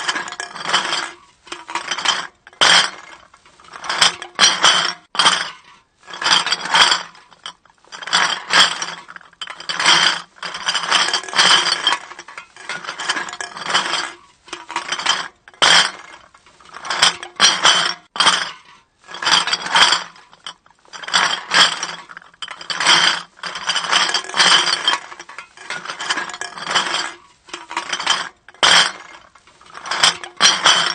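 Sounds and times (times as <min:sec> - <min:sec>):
glass bottles clinking: 0:00.0 - 0:05.6, 0:06.2 - 0:30.9.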